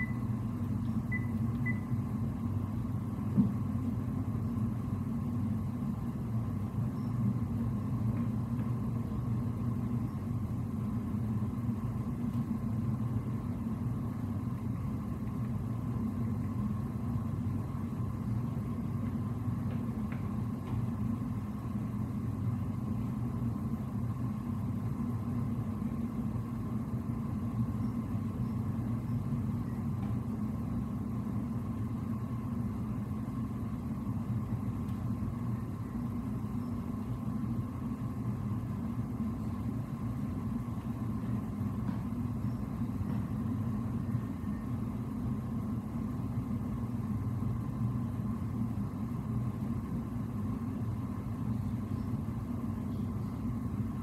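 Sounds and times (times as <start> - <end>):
machinery hum and rumble: 0.0 - 54.0.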